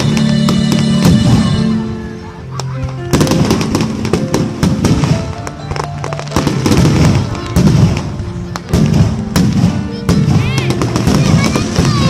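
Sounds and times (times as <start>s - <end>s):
fireworks bursting and crackling: 0.0s - 12.0s
loud music: 0.0s - 12.0s.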